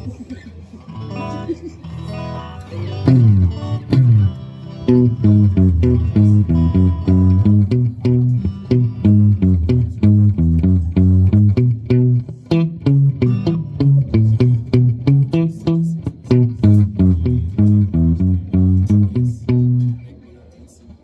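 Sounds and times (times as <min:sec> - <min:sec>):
electric guitar riff: 0:00.9 - 0:20.1.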